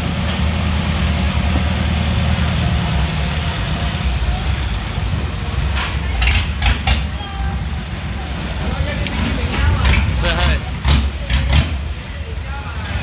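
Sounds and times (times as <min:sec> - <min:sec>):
engine rumbling: 0:00.0 - 0:13.0
road or water noise: 0:00.0 - 0:13.0.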